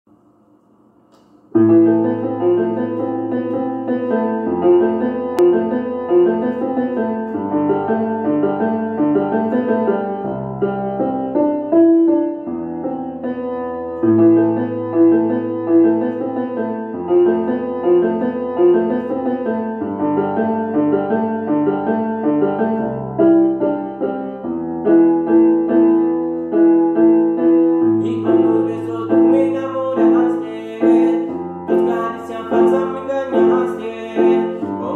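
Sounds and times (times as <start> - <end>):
electronic keyboard piano chords: 1.5 - 34.9.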